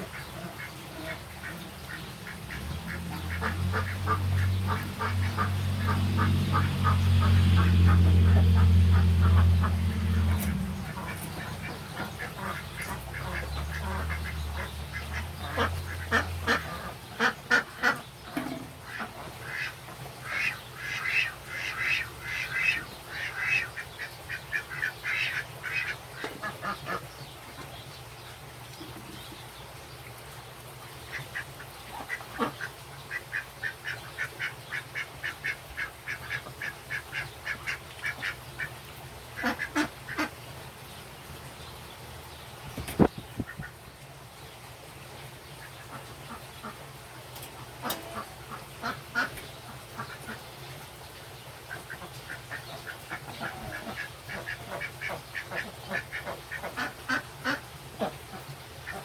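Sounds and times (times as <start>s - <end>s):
birds calling: 0.0s - 30.1s, 30.9s - 59.0s.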